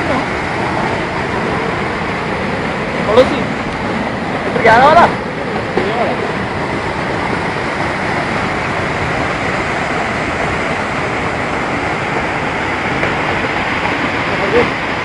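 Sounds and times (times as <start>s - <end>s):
floodwater rushing from culvert: 0.0s - 15.0s.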